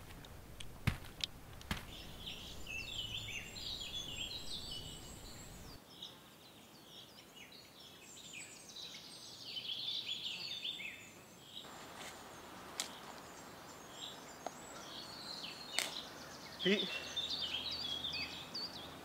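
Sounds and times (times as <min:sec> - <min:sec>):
birds chirping: 0:00.0 - 0:19.0
faint outdoor hiss: 0:00.0 - 0:19.0.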